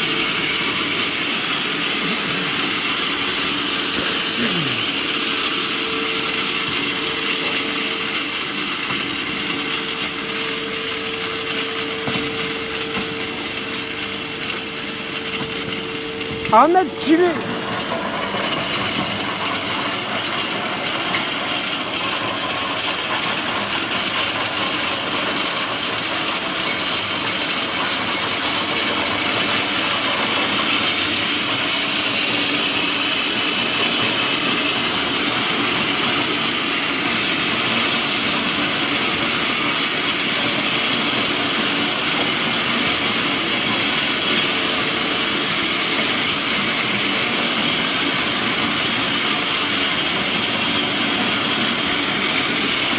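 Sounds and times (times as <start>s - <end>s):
machine running steadily: 0.0s - 52.9s.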